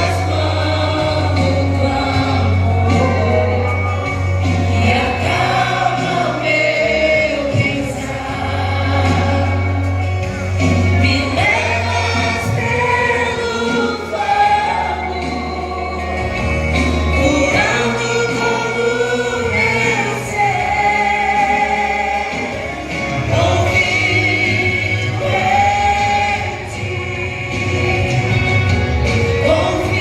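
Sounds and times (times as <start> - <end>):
gospel vocal group singing: 0.0 - 30.0
instrumental backing with bass: 0.0 - 30.0.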